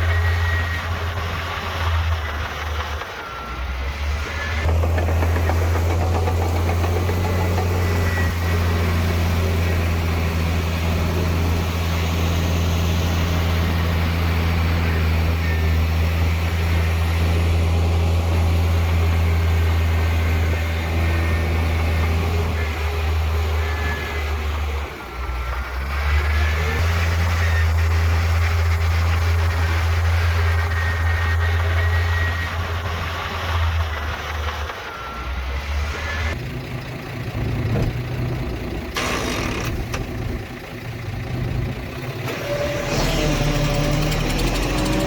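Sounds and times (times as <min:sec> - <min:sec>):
heavy diesel engine humming: 0:00.0 - 0:45.0.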